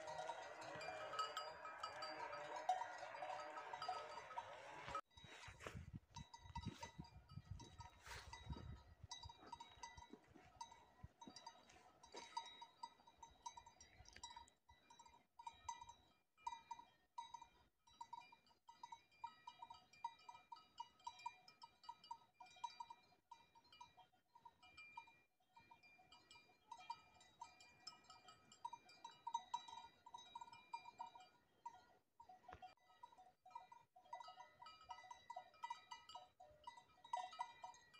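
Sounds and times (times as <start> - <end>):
cowbells clanking: 0.0 - 37.9.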